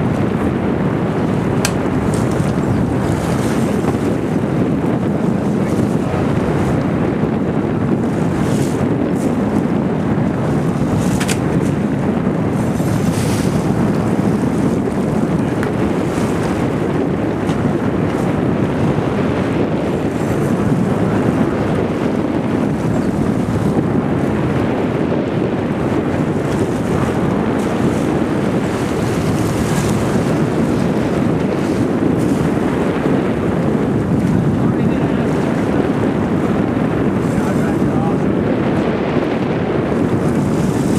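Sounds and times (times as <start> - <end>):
boat engine running: 0.0 - 40.9
water rushing along hull: 0.0 - 40.9
wind rumble on microphone: 0.0 - 40.9.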